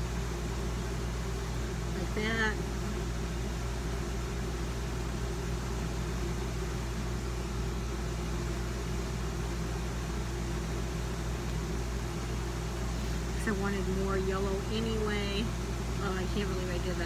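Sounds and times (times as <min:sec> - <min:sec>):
household appliance humming: 0:00.0 - 0:17.0.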